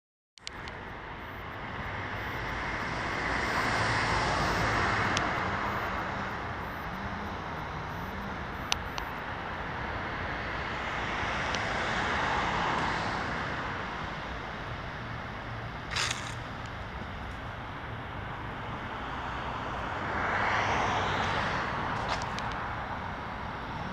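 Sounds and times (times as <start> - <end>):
vehicles passing: 0.4 - 23.9.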